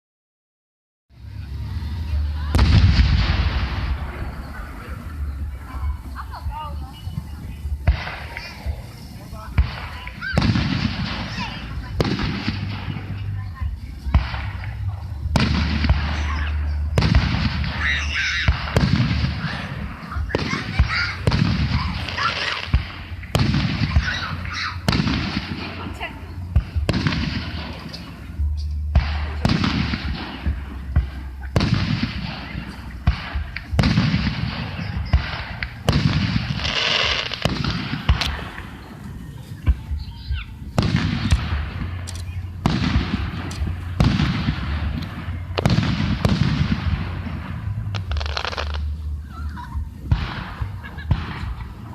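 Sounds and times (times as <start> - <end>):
fireworks crackling: 1.1 - 51.9
steady low hum: 1.1 - 51.9
fireworks bangs: 1.2 - 51.9.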